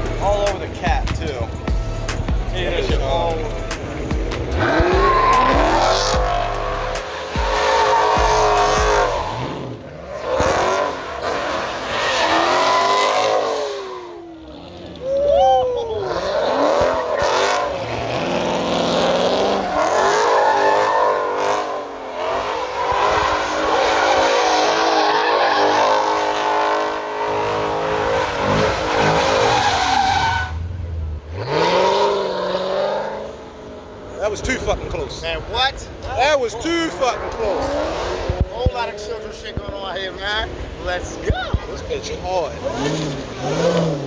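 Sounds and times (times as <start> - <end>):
tyres squealing and skidding: 0.0 - 30.7, 31.3 - 44.0
car engines revving hard: 0.0 - 44.0.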